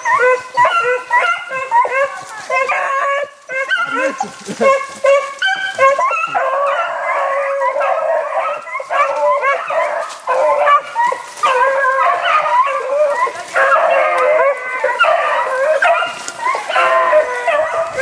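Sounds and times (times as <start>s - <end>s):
hounds baying and howling: 0.0s - 18.0s.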